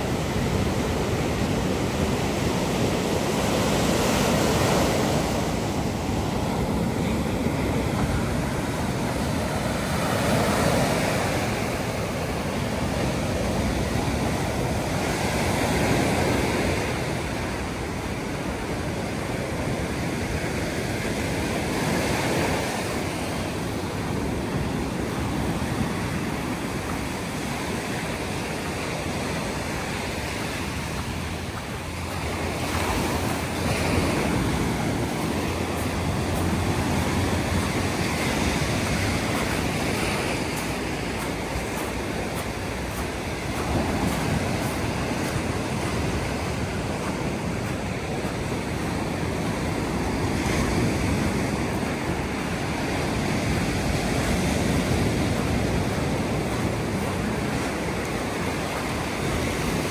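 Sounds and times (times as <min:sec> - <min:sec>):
sea waves breaking on beach: 0:00.0 - 0:59.9
wind rumbling on microphone: 0:00.0 - 0:59.9.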